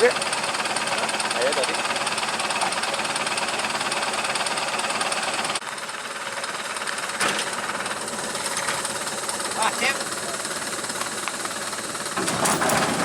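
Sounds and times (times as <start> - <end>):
truck engine clattering: 0.0 - 13.0.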